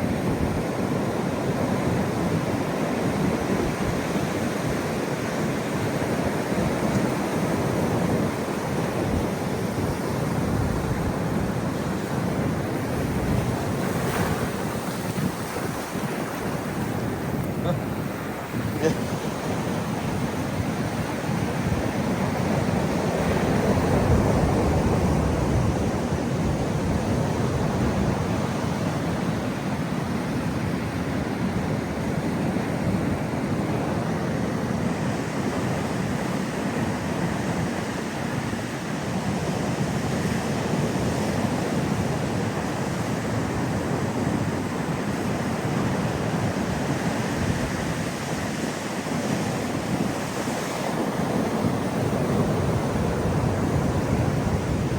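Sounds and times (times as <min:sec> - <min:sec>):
wind buffeting microphone: 0:00.0 - 0:34.8, 0:42.1 - 0:54.9
ocean waves breaking on shore: 0:00.0 - 0:54.9.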